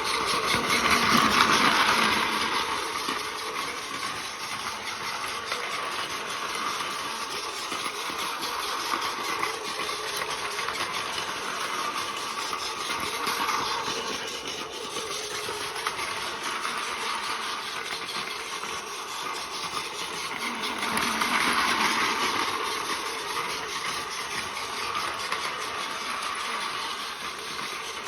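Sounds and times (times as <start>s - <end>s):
toy train motor whir: 0.0s - 28.0s
toy train wheel clatter: 0.0s - 28.0s.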